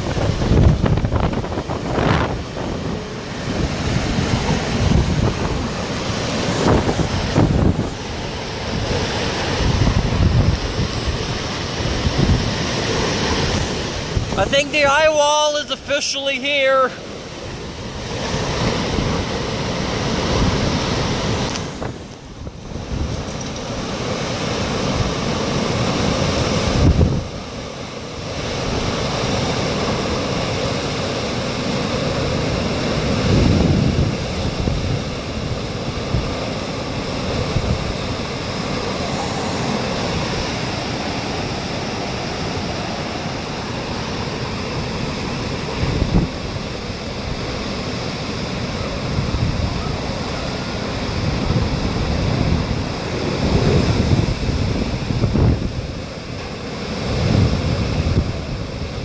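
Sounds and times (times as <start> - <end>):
wind buffeting microphone: 0.0 - 15.3, 17.1 - 43.4, 44.0 - 59.0
strong gusting wind: 0.0 - 59.0.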